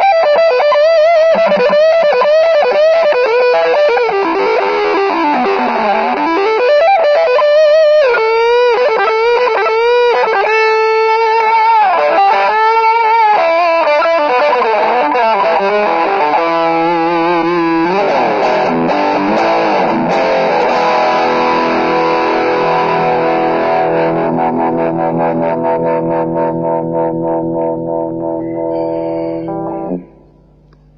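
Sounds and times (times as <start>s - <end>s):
electric guitar with vibrato: 0.0s - 30.9s.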